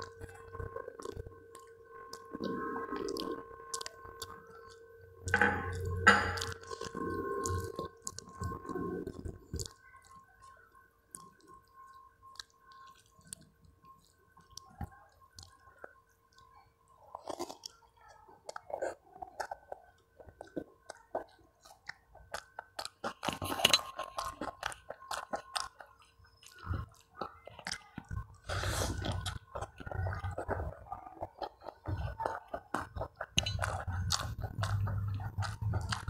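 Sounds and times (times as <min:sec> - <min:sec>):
chewing and wet mouth smacking: 0:00.0 - 0:36.0
faint steady whine: 0:00.0 - 0:36.0.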